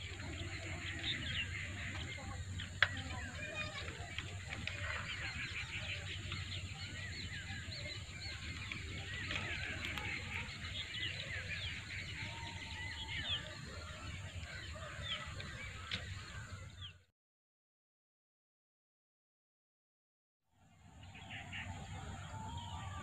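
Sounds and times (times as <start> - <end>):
flock of birds calling: 0.0 - 17.1, 20.8 - 23.0.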